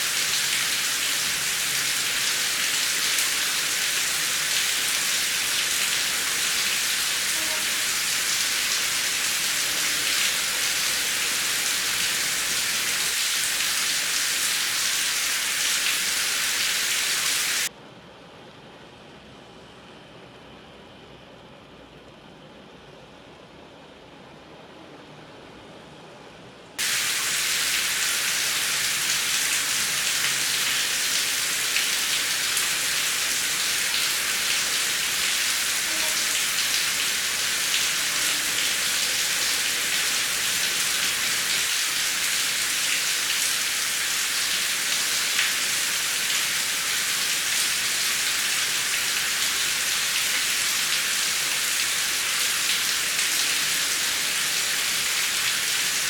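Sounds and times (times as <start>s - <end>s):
heavy rain: 0.0s - 17.7s, 26.8s - 56.0s.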